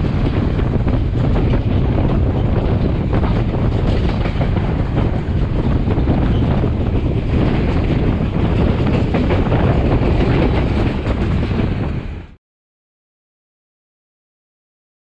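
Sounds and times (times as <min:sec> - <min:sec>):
train rumble: 0:00.0 - 0:12.4
train wheel clatter: 0:00.0 - 0:12.4
wind on microphone: 0:00.0 - 0:12.4.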